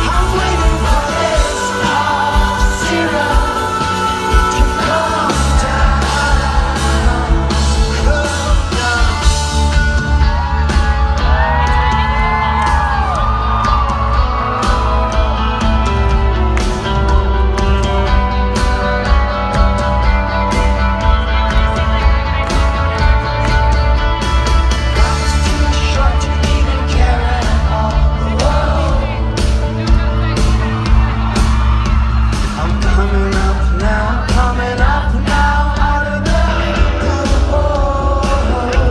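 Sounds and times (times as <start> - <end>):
bending guitar or vocal lines: 0.0 - 38.9
rock band playing live: 0.0 - 38.9.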